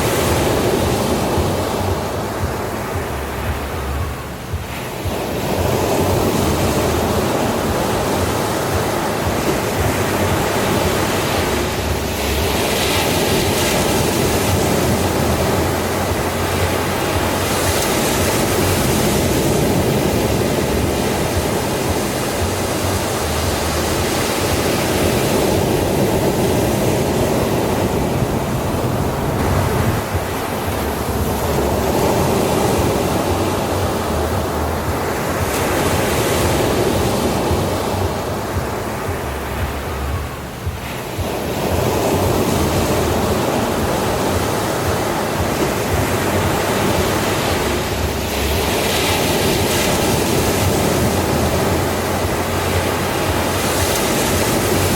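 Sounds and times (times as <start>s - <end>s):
ocean waves breaking on shore: 0.0s - 54.9s.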